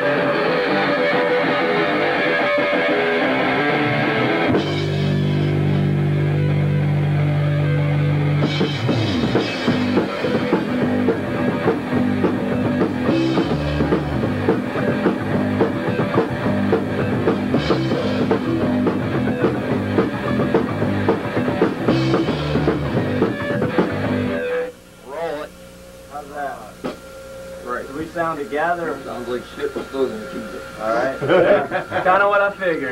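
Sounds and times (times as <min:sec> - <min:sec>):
punk rock band playing: 0:00.0 - 0:24.8, 0:28.8 - 0:32.9
drum kit: 0:00.0 - 0:32.9
electric guitar chord ringing: 0:00.0 - 0:32.9.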